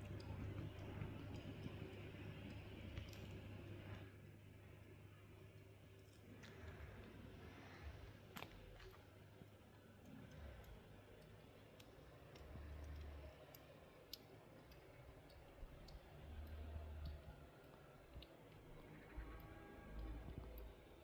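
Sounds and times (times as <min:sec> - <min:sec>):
faint irregular clicks: 0:00.0 - 0:21.0.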